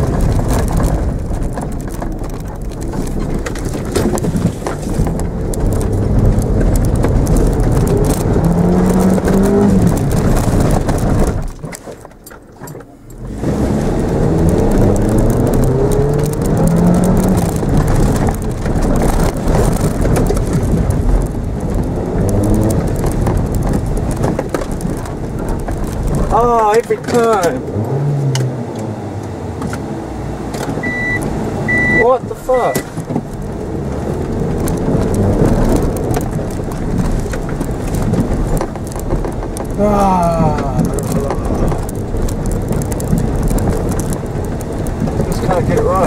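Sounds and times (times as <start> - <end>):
car engine revving: 0.0 - 11.4, 13.0 - 46.0.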